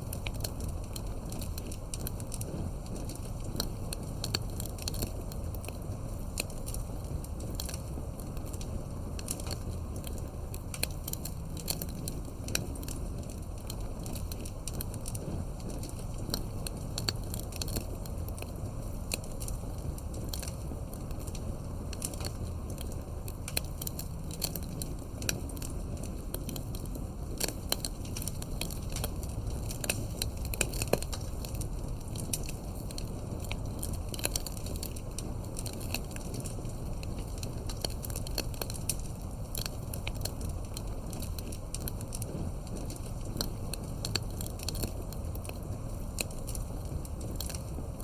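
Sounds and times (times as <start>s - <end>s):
burning wood crackling and popping: 0.0s - 48.0s
fire flames rumbling: 0.0s - 48.0s.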